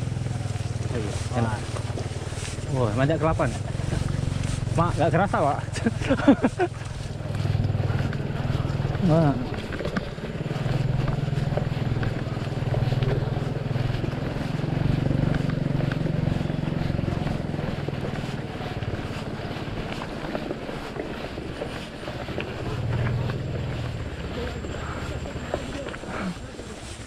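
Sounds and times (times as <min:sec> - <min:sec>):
low engine-like hum: 0:00.0 - 0:27.0.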